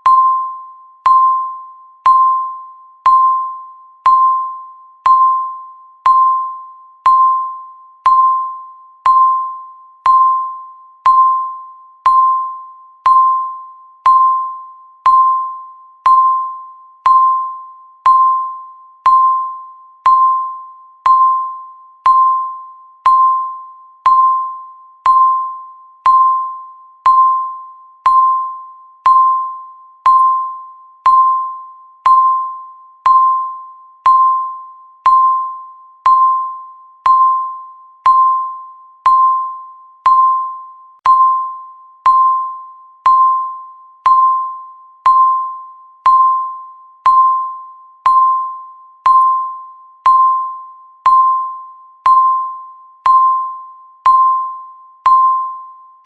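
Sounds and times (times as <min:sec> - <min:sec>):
chime-like timer tick: 0:00.0 - 0:56.0.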